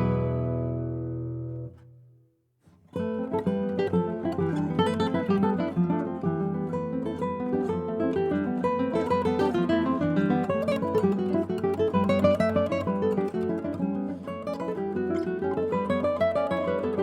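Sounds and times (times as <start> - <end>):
classical guitars playing: 0.0 - 2.2, 3.0 - 17.0.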